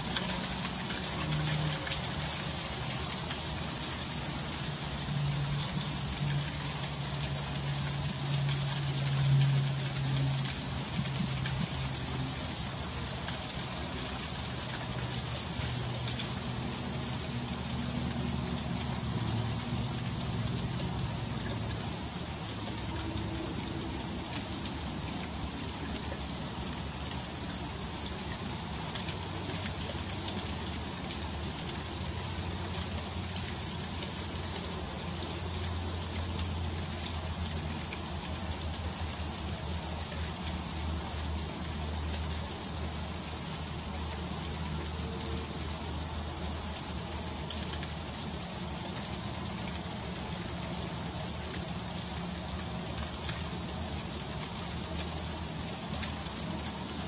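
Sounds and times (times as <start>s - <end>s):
freezing rain pattering: 0.0s - 57.0s.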